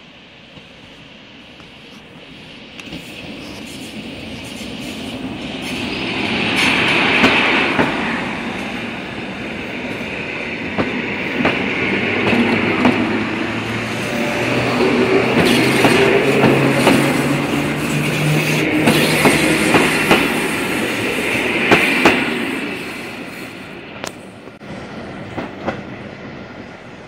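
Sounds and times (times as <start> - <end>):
passing train rail noise: 0.0 - 27.0.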